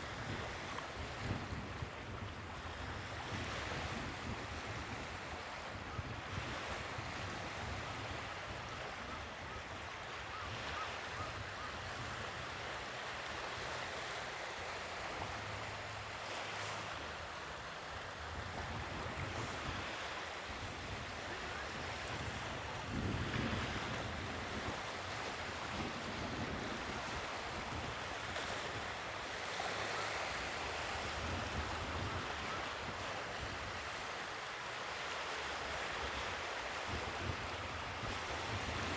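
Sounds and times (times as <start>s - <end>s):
wind rumbling on microphone: 0.0s - 13.5s, 15.0s - 29.1s, 30.3s - 34.0s, 35.7s - 38.9s
sea waves washing ashore: 0.0s - 38.9s.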